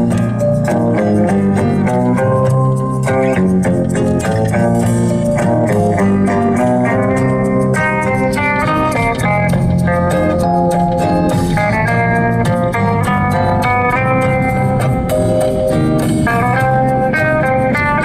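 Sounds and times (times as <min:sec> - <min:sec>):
guitar-led instrumental music: 0:00.0 - 0:18.0.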